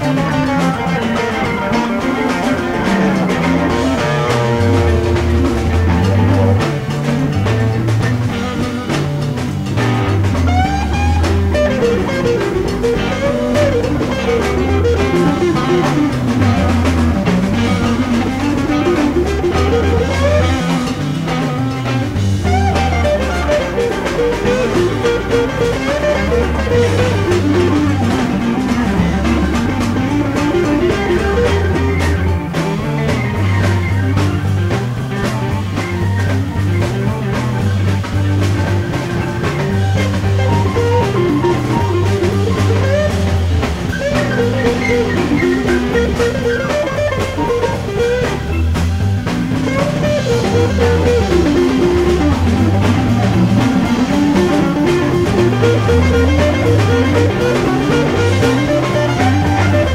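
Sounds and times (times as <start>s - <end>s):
electric lead guitar: 0.0s - 59.9s
rock band playing: 0.0s - 59.9s.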